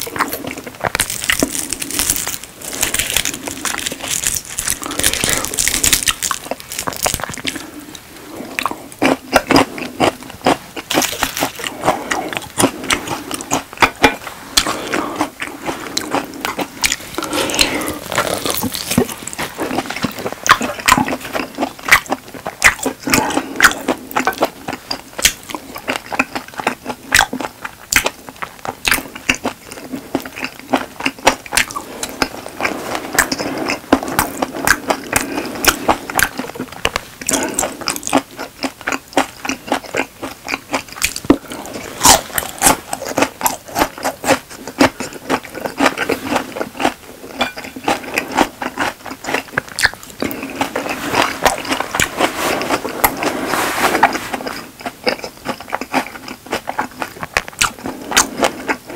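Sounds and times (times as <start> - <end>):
person chewing food: 0.0 - 58.9.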